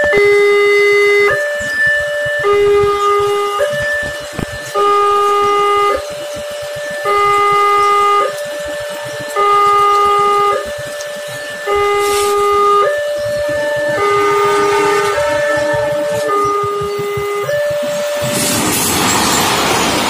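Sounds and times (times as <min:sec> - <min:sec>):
level crossing alarm two tones: 0:00.0 - 0:20.0.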